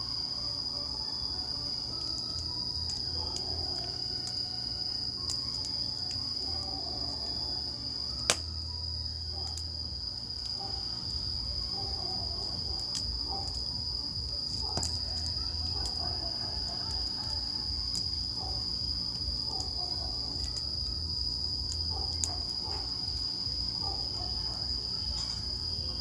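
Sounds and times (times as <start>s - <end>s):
crickets trilling: 0.0s - 26.0s
campfire crackling and popping: 1.3s - 26.0s.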